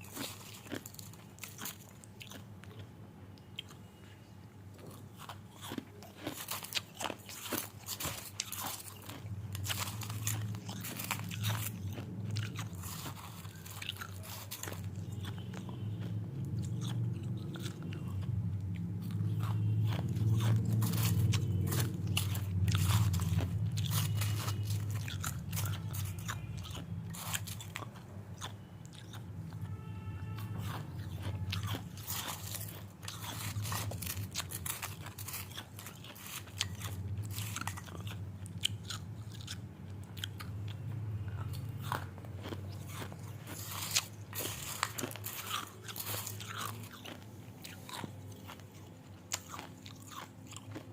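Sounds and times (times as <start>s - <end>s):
person chewing crunchy food: 0.0s - 50.9s
steady low hum: 0.0s - 50.9s.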